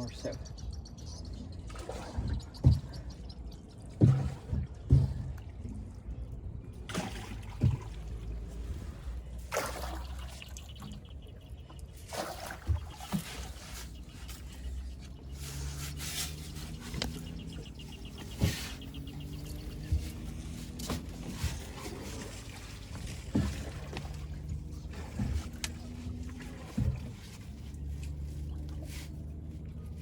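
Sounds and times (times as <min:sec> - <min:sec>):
water trickling off oar: 0:01.6 - 0:30.0
oar splashing in water: 0:01.7 - 0:03.1, 0:03.7 - 0:30.0.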